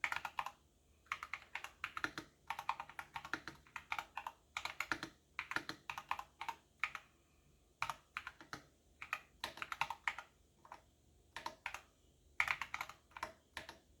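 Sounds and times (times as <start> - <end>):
computer keyboard typing: 0.0 - 7.1, 7.8 - 13.9.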